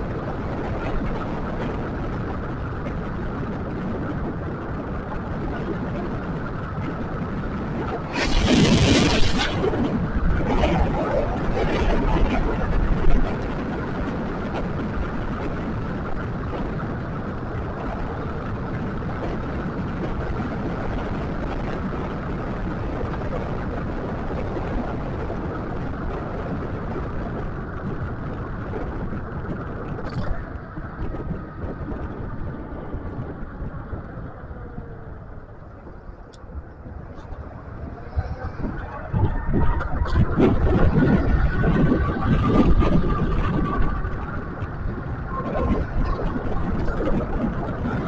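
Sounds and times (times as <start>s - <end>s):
road noise: 0.0s - 48.0s
wind on microphone: 0.0s - 48.0s.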